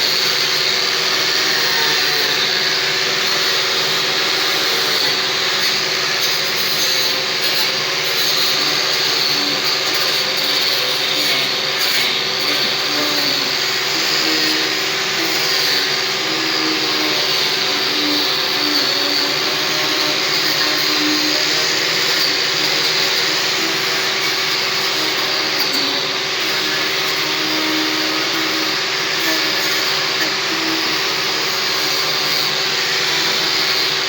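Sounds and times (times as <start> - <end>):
power tool motor whine: 0.0 - 34.0.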